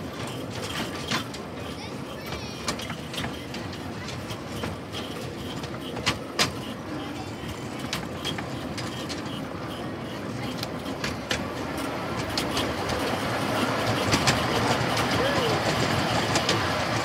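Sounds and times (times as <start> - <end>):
miniature train rumbling on track: 0.0 - 17.0
wheels clicking over rail joints: 0.0 - 17.0.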